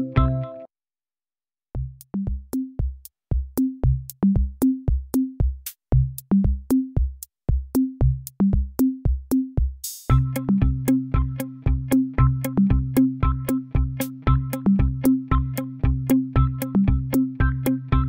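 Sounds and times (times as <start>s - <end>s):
drum machine beat: 1.8s - 18.0s.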